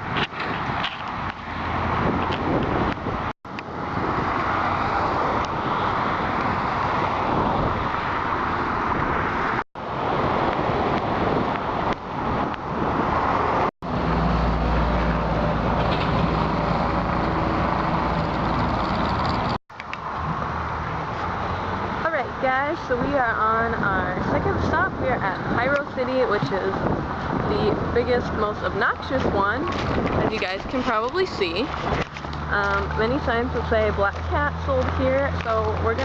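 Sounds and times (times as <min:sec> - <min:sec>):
car and road noise: 0:00.0 - 0:36.0
low engine hum: 0:00.0 - 0:36.0.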